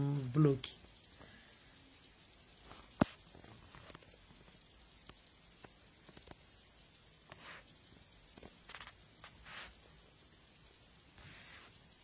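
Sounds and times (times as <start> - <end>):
soft hiss: 0.0 - 12.0.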